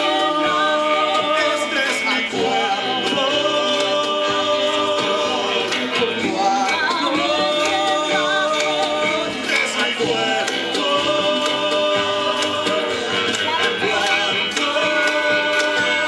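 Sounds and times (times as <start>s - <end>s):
instrumental accompaniment: 0.0s - 16.0s
people singing: 0.0s - 16.0s.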